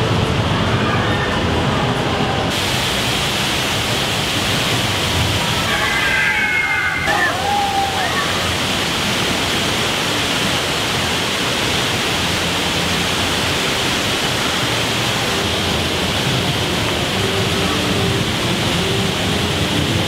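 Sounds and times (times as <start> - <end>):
rushing falling water: 0.0 - 20.0.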